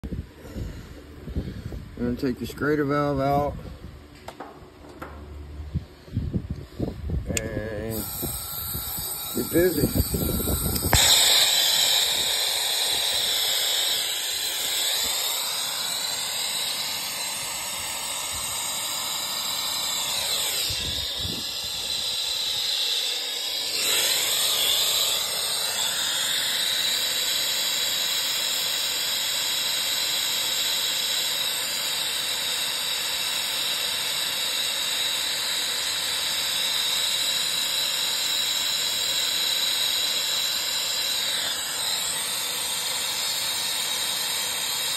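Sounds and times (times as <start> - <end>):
gas torch flame hissing: 7.3 - 44.9.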